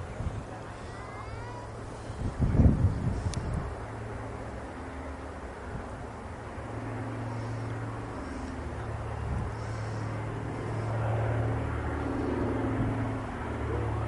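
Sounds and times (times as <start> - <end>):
propeller plane flying overhead: 0.0 - 14.0.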